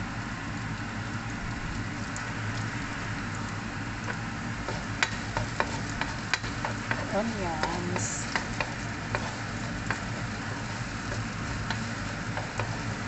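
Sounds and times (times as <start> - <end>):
onions sizzling in hot oil: 0.7 - 13.0.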